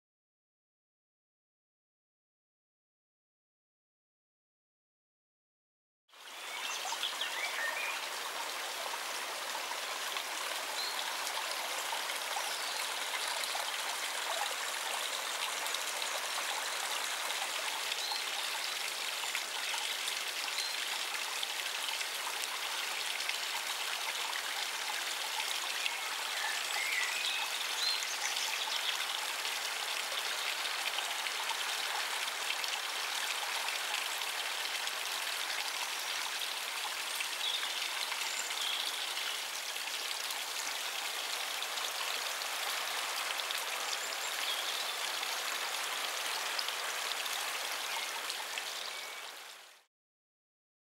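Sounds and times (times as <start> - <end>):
stream running over rocks: 6.2 - 49.9.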